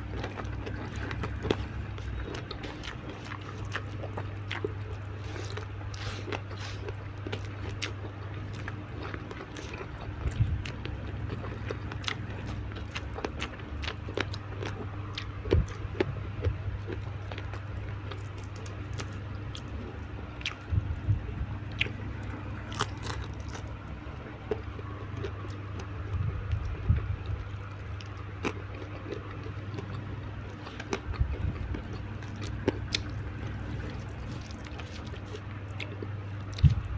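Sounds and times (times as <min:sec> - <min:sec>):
low hum: 0:00.0 - 0:36.9
wet chewing and crunching: 0:00.0 - 0:36.9.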